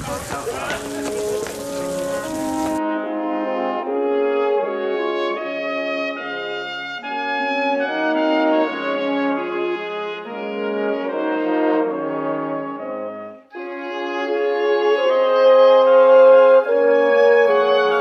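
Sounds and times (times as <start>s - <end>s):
brass-led orchestral music: 0.0s - 18.0s.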